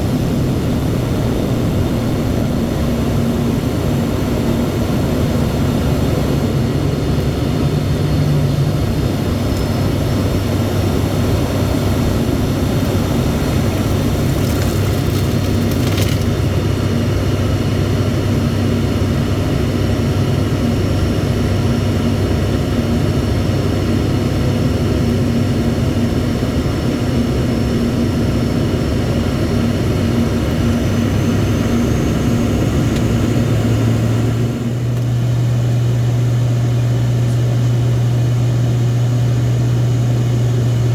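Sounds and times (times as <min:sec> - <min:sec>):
turboprop engines droning: 0:00.0 - 0:40.9.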